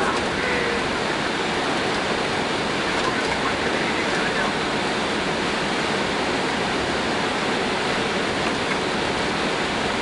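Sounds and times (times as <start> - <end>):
aircraft cockpit rushing noise: 0.0 - 10.0.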